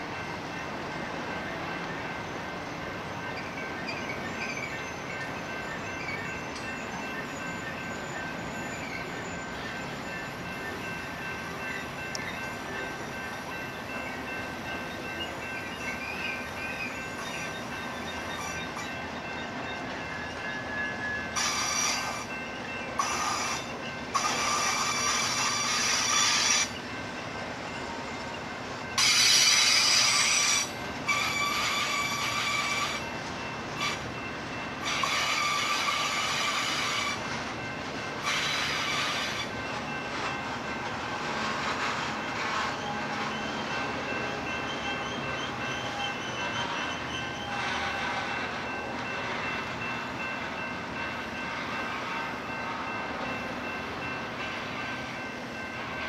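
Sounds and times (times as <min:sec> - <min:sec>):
freight train rumble: 0:00.0 - 0:56.0
steel wheel squeal: 0:01.7 - 0:53.4.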